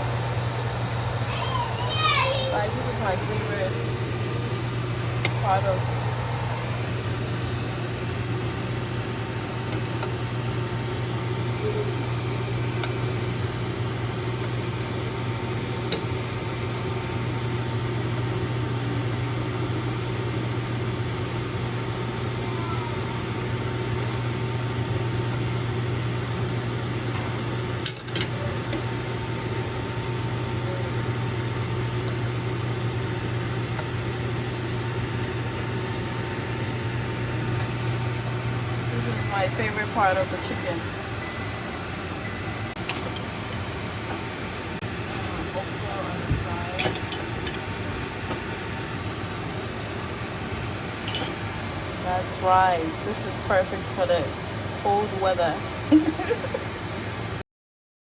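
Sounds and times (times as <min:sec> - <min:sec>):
appliance humming: 0:00.0 - 0:57.4.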